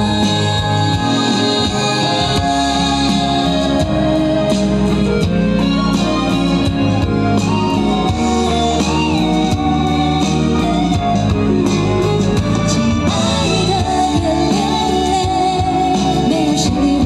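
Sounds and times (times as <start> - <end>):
bass line: 0.0 - 17.0
drums: 0.0 - 17.0
guitar: 0.0 - 17.0
sustained keyboard chords: 0.0 - 17.0.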